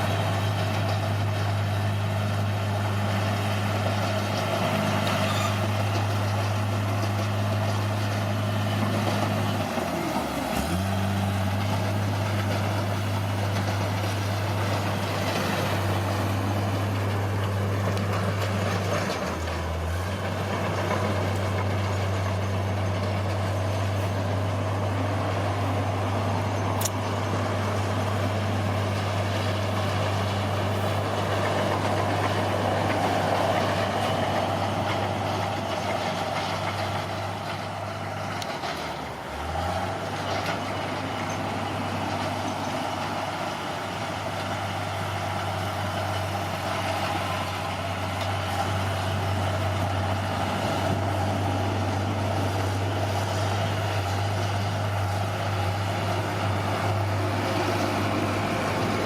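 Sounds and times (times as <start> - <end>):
heavy machinery diesel engine drone: 0.0 - 59.0.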